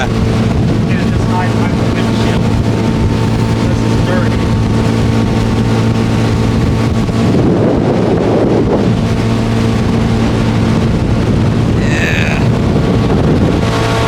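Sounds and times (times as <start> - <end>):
outboard motor running: 0.0 - 14.0
water rushing past hull: 0.0 - 14.0
wind buffeting microphone: 0.0 - 14.0.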